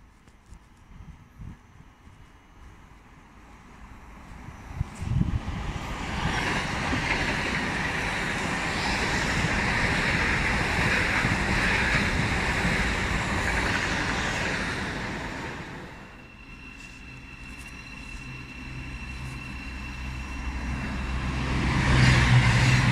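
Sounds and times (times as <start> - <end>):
high-speed train passing: 0.9 - 22.9.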